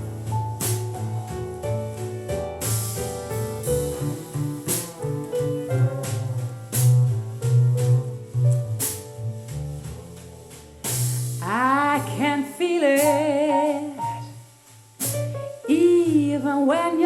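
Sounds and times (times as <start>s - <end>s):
bass line: 0.0s - 17.0s
piano playing: 0.0s - 17.0s.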